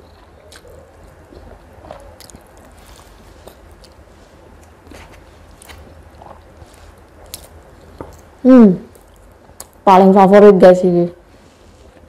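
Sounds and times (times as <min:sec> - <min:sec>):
person chewing noodles: 0:00.0 - 0:09.8.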